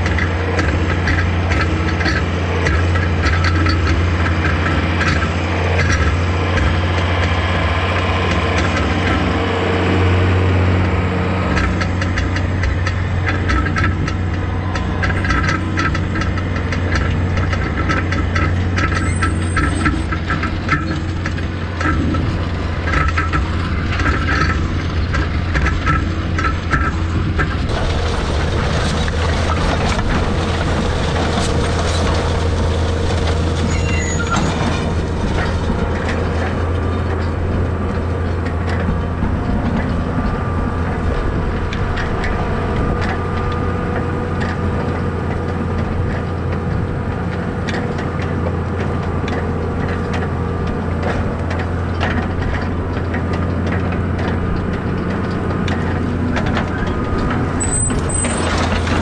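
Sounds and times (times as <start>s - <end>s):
tractor engine humming: 0.0s - 59.0s.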